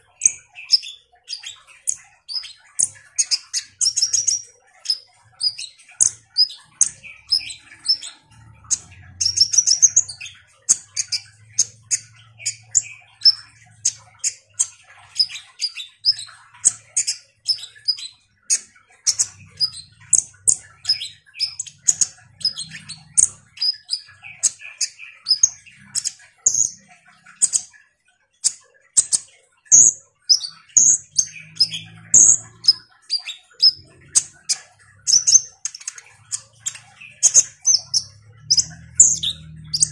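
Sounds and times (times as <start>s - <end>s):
sunbird chirping: 0.0s - 27.7s, 28.4s - 39.9s.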